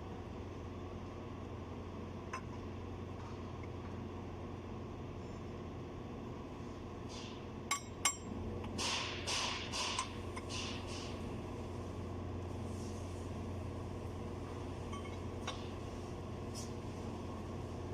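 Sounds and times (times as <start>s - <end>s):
steady background hum: 0.0s - 17.9s.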